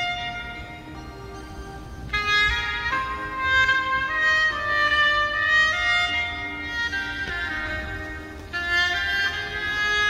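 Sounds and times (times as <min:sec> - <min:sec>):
slow melody of held notes: 0:00.0 - 0:10.0.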